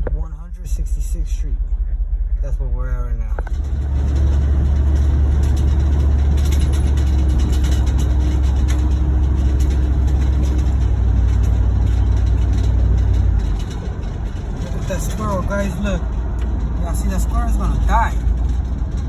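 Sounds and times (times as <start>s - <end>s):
road noise: 0.0s - 19.0s
truck engine rumble: 0.0s - 19.0s.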